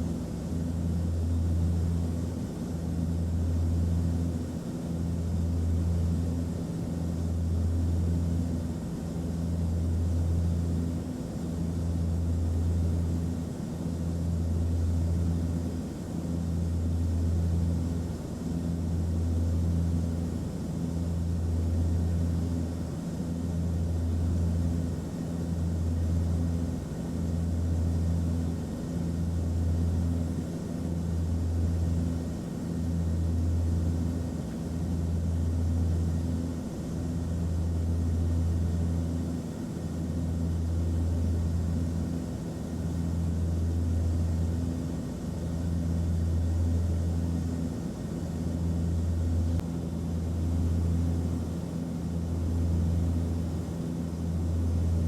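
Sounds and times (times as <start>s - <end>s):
aircraft cabin engine drone: 0.0s - 55.0s
faint pulsing hum: 0.0s - 55.0s.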